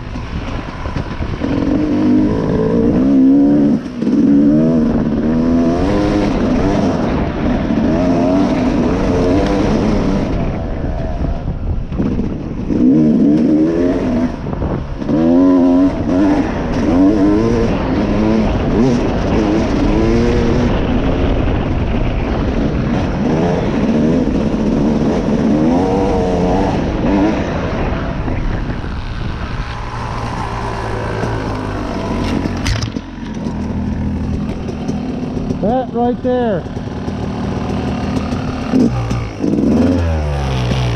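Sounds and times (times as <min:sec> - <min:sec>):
dirt bike engine revving: 0:00.0 - 0:11.4, 0:12.0 - 0:40.9.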